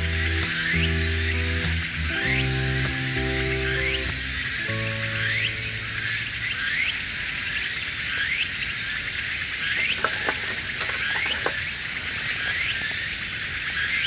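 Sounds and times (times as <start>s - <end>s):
insects calling: 0.0s - 14.0s.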